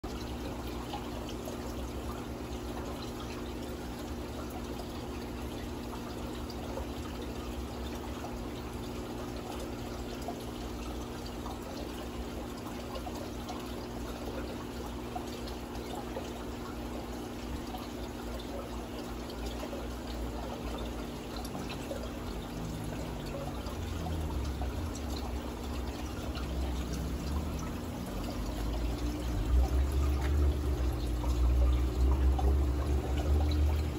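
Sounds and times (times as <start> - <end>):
water trickling and pouring: 0.0 - 33.9
steady low hum: 0.1 - 33.9.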